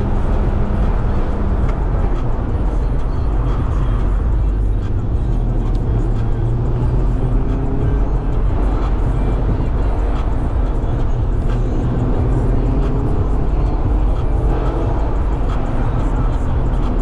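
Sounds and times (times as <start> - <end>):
car engine drone: 0.0 - 17.0
road rumble: 0.0 - 17.0.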